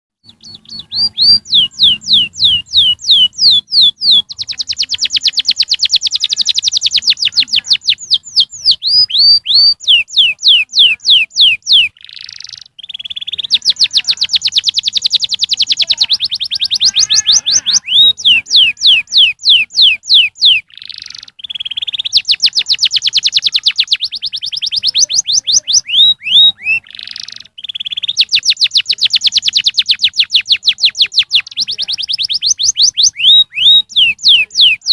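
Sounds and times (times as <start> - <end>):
canary singing: 0.2 - 34.9.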